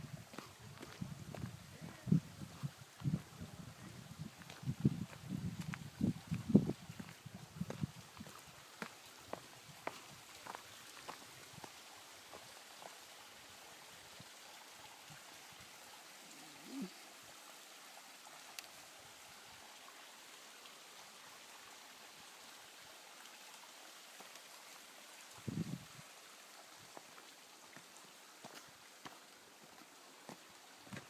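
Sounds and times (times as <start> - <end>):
small waterfall rushing: 0.0 - 31.0.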